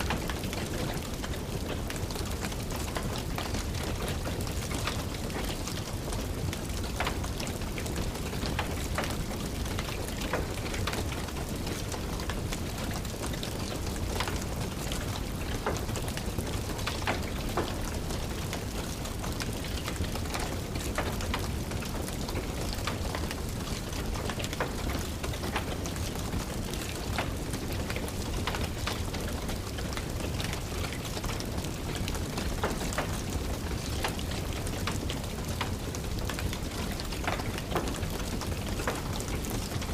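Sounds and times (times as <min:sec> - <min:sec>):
rain patter: 0:00.0 - 0:39.9
wood fire crackling: 0:00.0 - 0:39.9.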